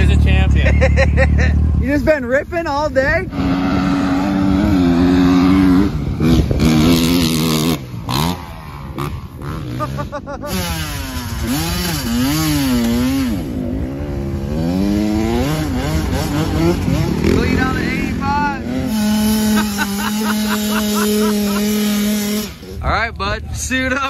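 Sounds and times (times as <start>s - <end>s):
dirt bike engine revving: 0.0s - 23.2s.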